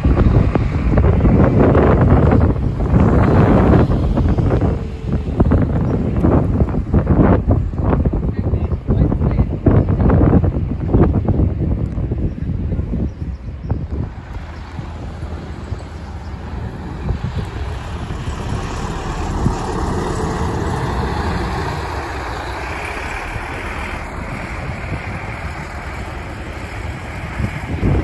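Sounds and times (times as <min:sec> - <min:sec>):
bus driving past: 0:00.0 - 0:08.9, 0:12.9 - 0:28.0
wind buffeting microphone: 0:00.0 - 0:28.0.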